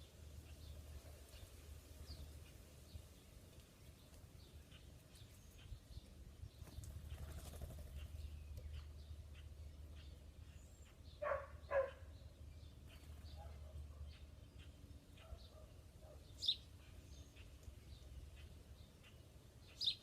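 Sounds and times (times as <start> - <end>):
wild birds chirping: 0.0 - 20.0.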